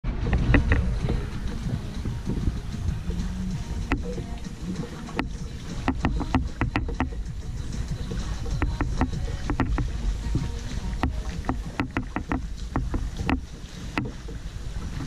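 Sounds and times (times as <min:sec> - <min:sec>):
water and wind rumble: 0:00.0 - 0:15.0
paddle clicking against hull: 0:00.1 - 0:15.0.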